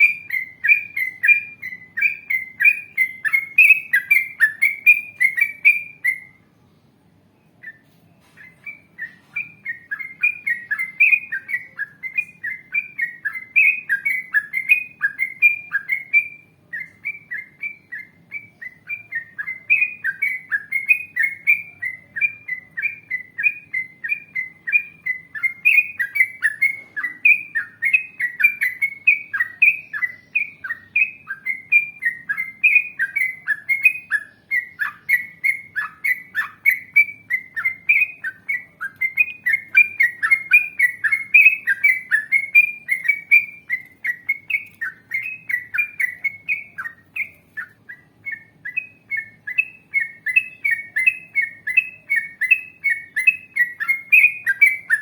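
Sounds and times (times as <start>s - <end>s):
bird singing bubbly chirps: 0.0s - 6.5s, 7.4s - 55.0s.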